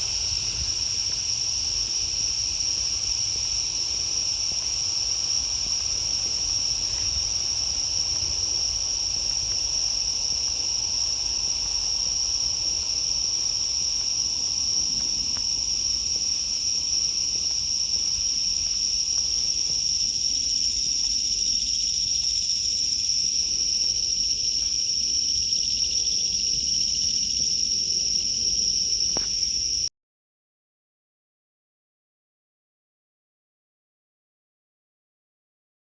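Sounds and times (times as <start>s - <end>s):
night insects trilling: 0.0s - 29.9s.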